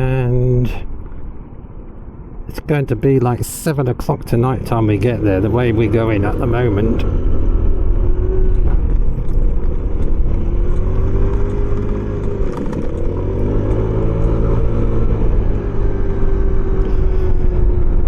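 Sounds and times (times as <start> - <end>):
low rumble of wind and road: 0.0 - 18.0.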